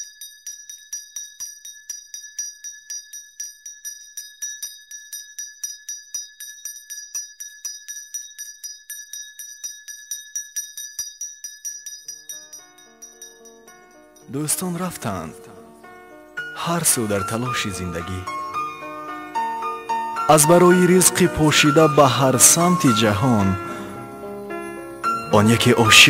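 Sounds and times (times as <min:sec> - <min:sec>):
handbell ringing: 0:00.0 - 0:26.0.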